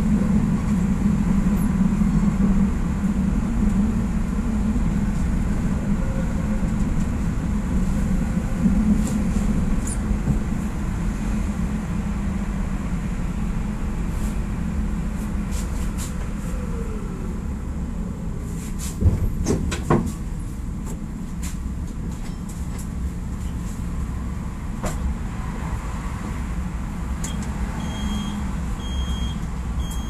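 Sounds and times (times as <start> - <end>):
tram motors and wheels rumbling: 0.0 - 30.0.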